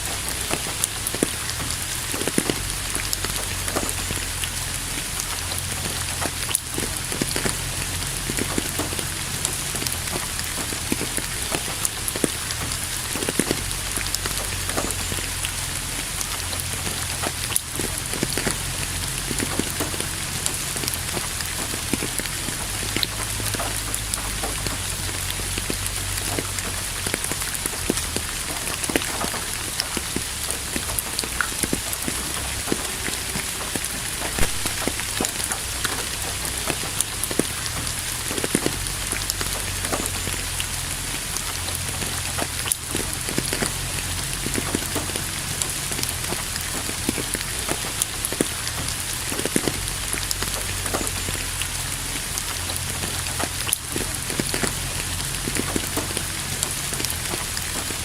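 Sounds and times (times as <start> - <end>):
raindrops tapping: 0.0 - 58.0
steady rain hiss: 0.0 - 58.0.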